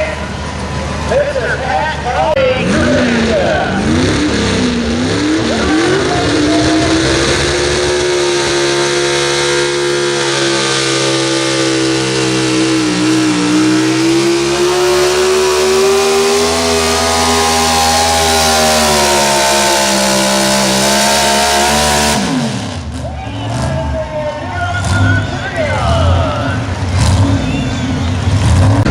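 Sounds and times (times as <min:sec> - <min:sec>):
truck engine at high revs: 0:00.0 - 0:28.9.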